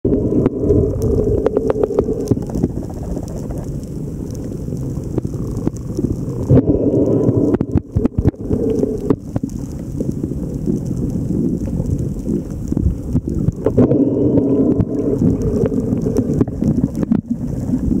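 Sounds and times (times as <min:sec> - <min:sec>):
underwater low rumble: 0:00.0 - 0:18.0
sharp underwater clicks: 0:00.3 - 0:18.0.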